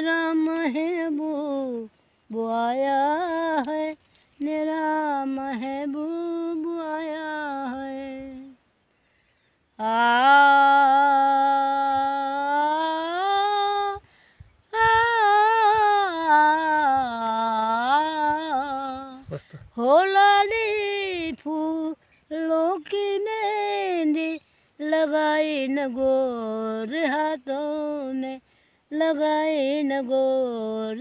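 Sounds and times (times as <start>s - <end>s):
elderly woman singing unaccompanied: 0.0s - 8.6s, 9.8s - 14.0s, 14.6s - 31.0s.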